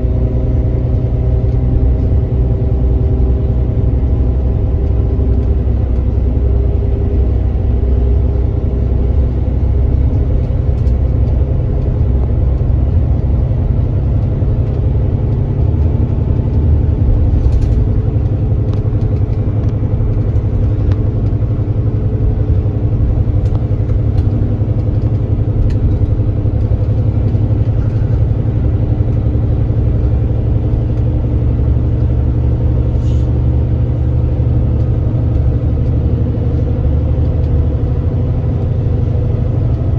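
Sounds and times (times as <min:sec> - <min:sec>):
diesel engine rumbling: 0:00.0 - 0:39.9
road noise: 0:00.0 - 0:39.9.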